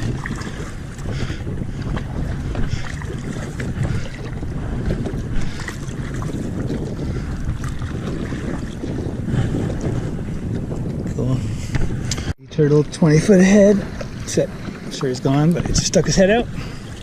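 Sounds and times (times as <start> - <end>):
water splashes: 0.0 - 17.0
wind buffeting microphone: 0.0 - 17.0.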